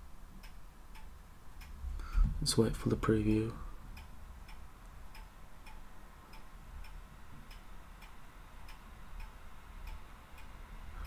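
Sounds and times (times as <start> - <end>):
faint ticking: 0.0 - 11.0
low steady hum: 0.0 - 11.0.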